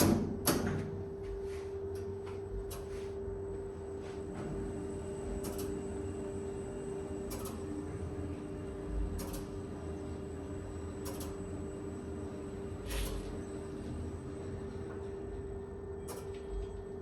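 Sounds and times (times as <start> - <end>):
lift control cabinet humming: 0.0 - 17.0.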